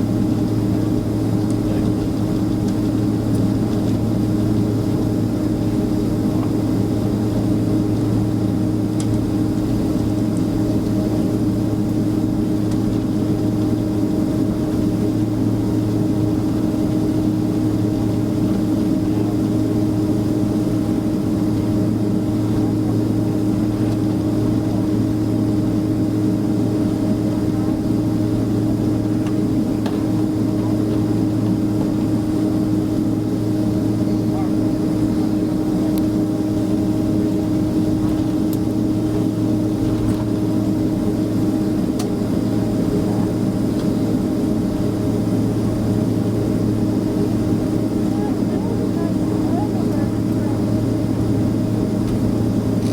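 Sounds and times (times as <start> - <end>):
airliner cabin droning hum: 0.0 - 52.9.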